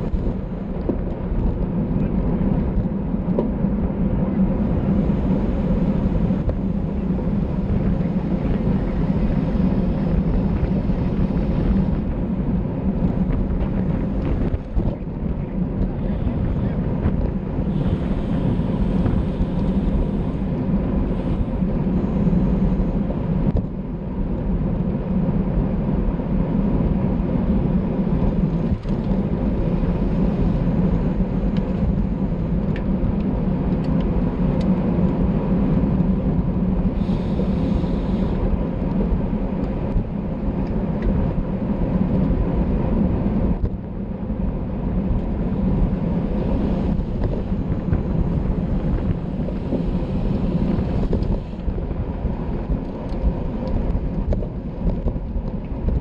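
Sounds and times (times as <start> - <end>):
wind buffeting a microphone: 0.0 - 56.0.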